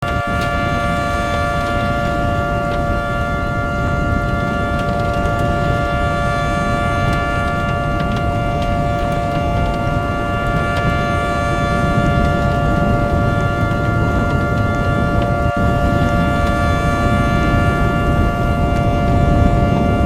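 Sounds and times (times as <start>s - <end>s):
rough low rumble: 0.0s - 20.0s
two-tone warning siren: 0.0s - 20.0s.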